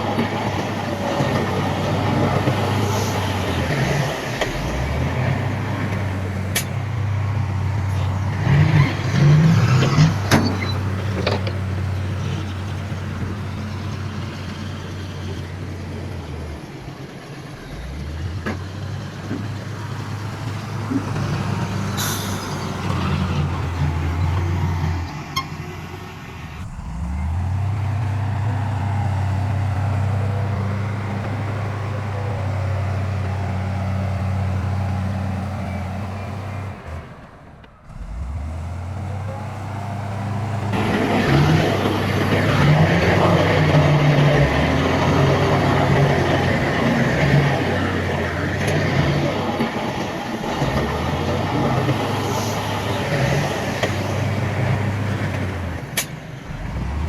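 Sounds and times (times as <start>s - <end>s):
diesel machinery engine hum: 0.0s - 57.0s.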